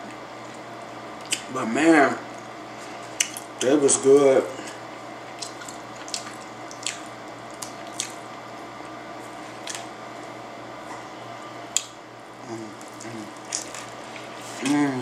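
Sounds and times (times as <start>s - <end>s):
steady low hum: 0.0s - 15.0s
wet eating sounds: 0.4s - 1.5s, 2.3s - 10.3s, 11.7s - 15.0s.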